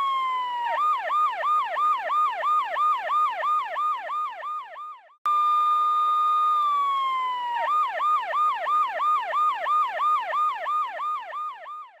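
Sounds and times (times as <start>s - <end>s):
police siren wailing and yelping: 0.0s - 12.0s.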